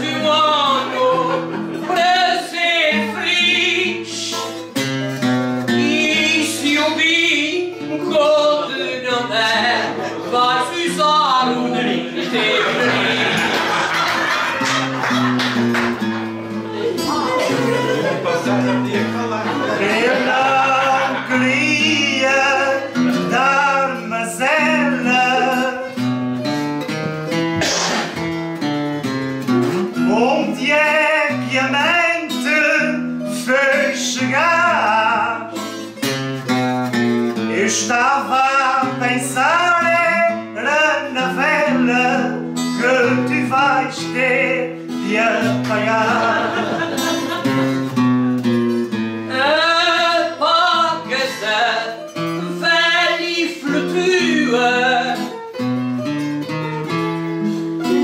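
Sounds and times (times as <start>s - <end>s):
acoustic guitars playing: 0.0s - 58.0s.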